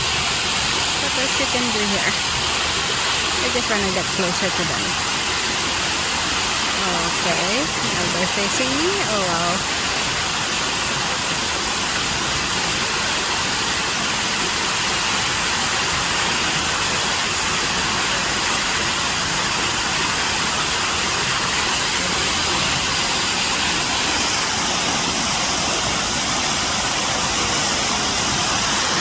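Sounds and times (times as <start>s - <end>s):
steady rushing hiss: 0.0s - 29.0s.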